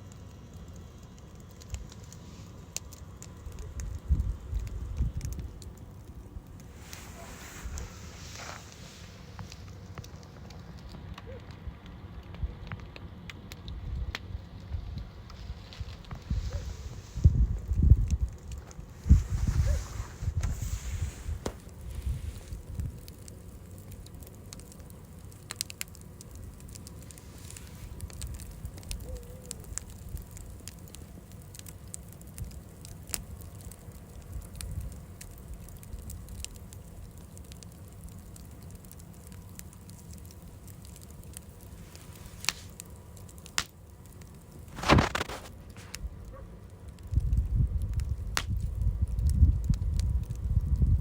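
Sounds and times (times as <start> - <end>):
fire crackling: 0.0 - 51.0
fire popping: 0.0 - 51.0.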